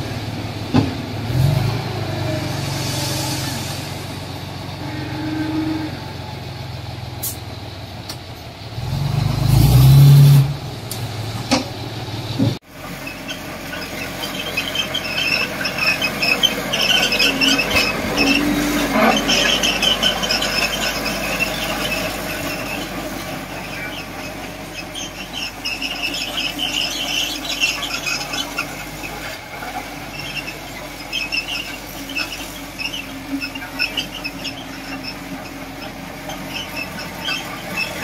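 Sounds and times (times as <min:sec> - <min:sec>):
diesel engines revving: 0:00.0 - 0:38.0
steel tracks clattering and squealing: 0:00.0 - 0:38.0.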